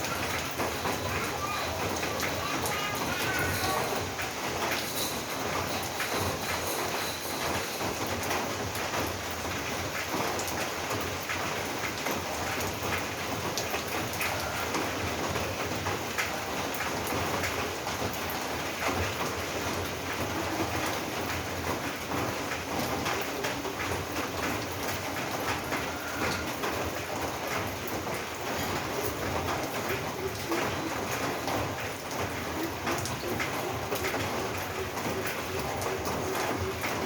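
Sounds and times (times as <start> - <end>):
rain on a roof: 0.0 - 37.0.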